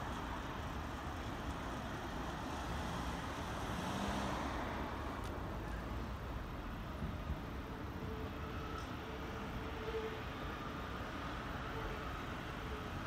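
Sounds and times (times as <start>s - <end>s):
city traffic noise: 0.0s - 13.0s.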